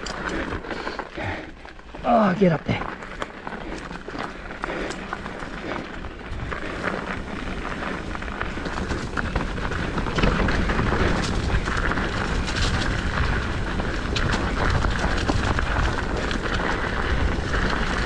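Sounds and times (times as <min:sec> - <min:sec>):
bike rattling over bumps: 0:00.0 - 0:18.0
tyres on dirt: 0:00.0 - 0:18.0
wind rumble on microphone: 0:03.0 - 0:18.0.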